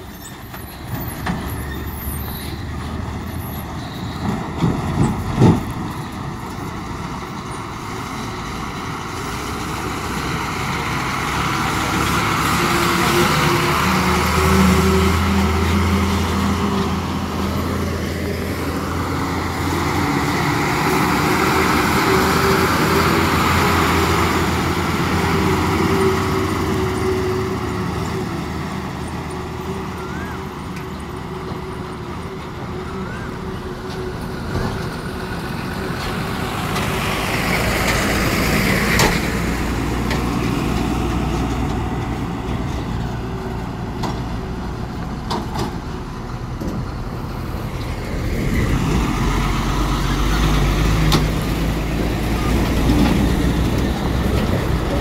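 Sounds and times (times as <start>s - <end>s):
diesel lorries driving past: 0.0s - 55.0s
tyres on wet road: 0.0s - 55.0s.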